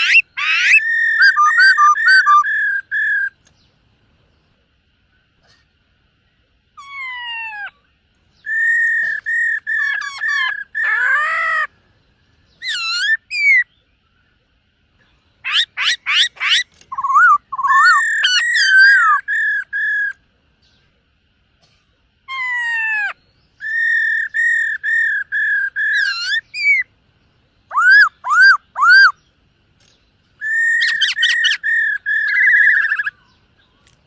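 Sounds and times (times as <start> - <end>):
bird whistling song: 0.0 - 3.8, 6.3 - 14.4, 15.0 - 20.9, 22.3 - 26.9, 27.6 - 34.0.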